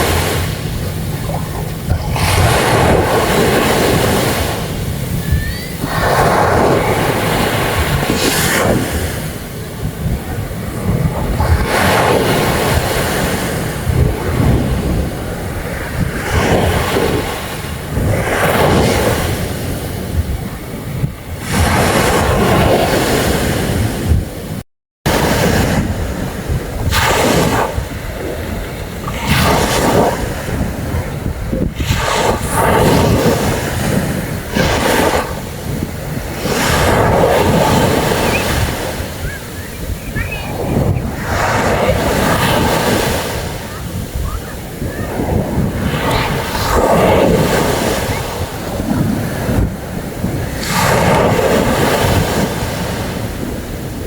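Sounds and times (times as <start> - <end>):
sea waves washing onto beach: 0.0 - 54.0
wind buffeting microphone: 0.0 - 54.0.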